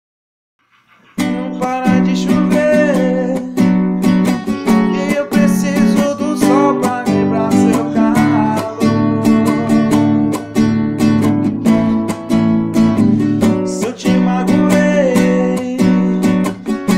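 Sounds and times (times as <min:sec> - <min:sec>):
acoustic guitar strumming: 0:00.6 - 0:16.9.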